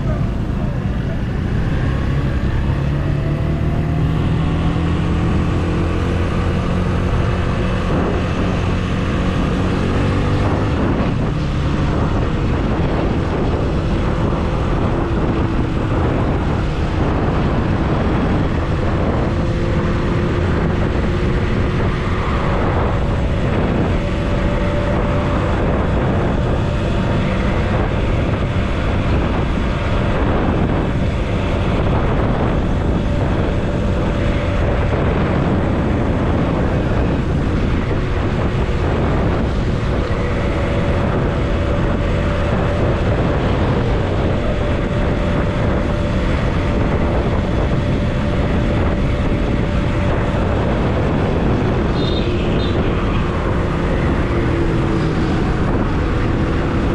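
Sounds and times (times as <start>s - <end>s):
motorcycle engine running: 0.0s - 56.9s
wind and road noise: 0.0s - 56.9s.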